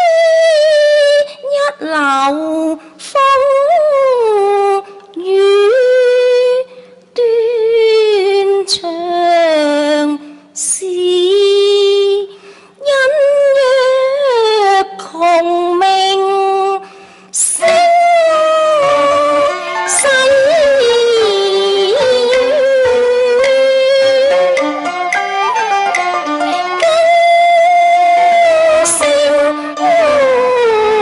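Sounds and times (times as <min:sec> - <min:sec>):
woman singing opera: 0:00.0 - 0:16.8, 0:17.4 - 0:24.6, 0:26.5 - 0:31.0.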